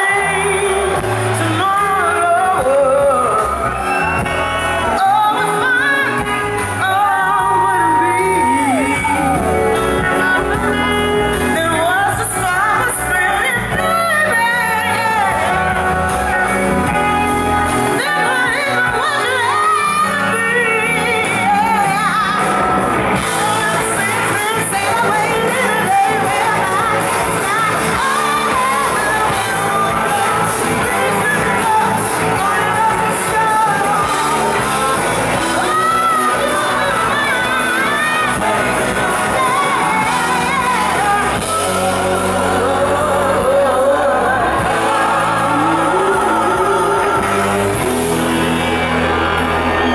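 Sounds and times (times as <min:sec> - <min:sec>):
electric guitar: 0:00.0 - 0:49.9
live band playing: 0:00.0 - 0:49.9
woman singing: 0:00.0 - 0:49.9.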